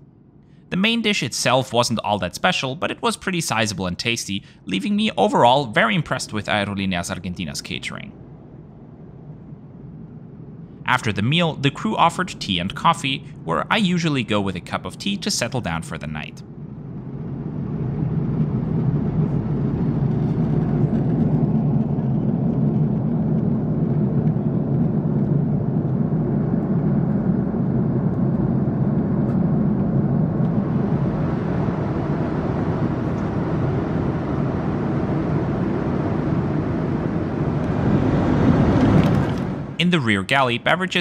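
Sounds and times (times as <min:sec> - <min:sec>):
airliner cabin drone: 0:00.0 - 0:41.0.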